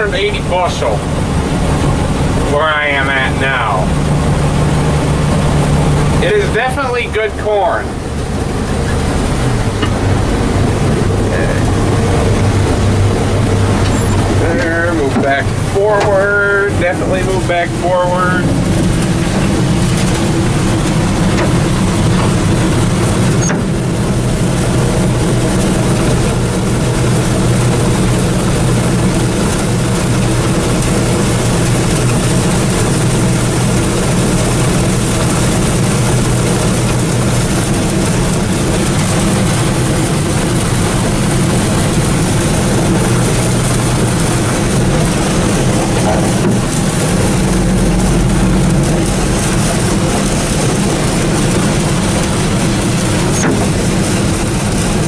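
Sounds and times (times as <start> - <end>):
combine engine and threshing machinery: 0.0 - 55.0
deep low engine note: 0.0 - 55.0.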